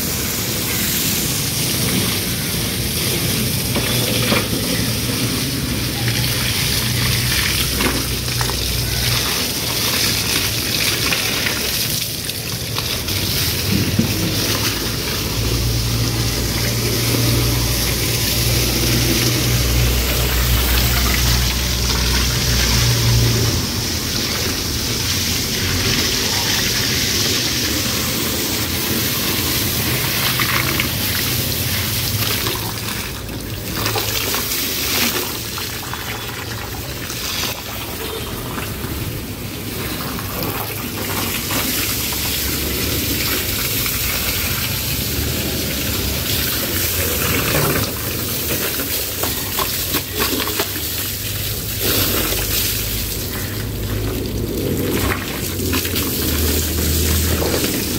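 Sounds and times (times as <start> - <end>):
hose water spraying on car: 0.0 - 57.9.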